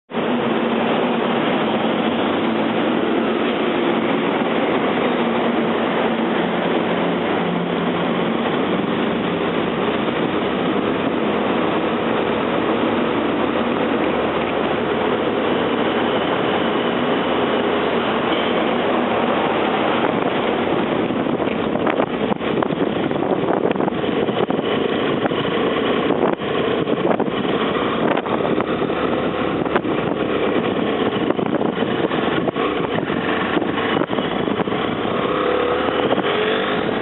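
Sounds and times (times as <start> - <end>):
ferry engines droning: 0.1 - 37.0.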